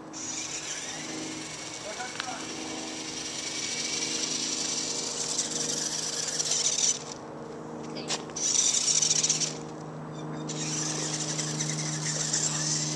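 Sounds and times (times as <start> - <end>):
toy truck motor whining: 0.1 - 7.2, 8.4 - 9.7, 10.5 - 12.9.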